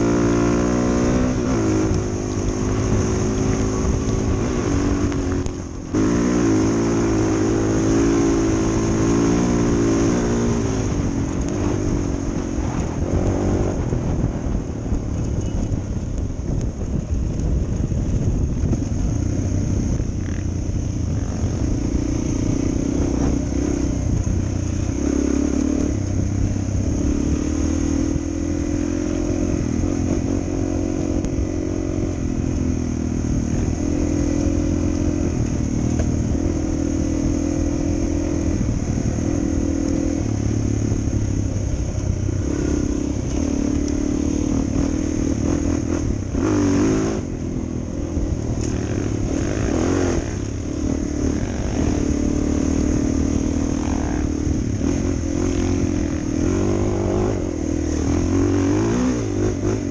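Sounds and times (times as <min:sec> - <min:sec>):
motorcycle engine running: 0:00.0 - 0:59.9
wind or clatter flare: 0:00.0 - 0:59.9.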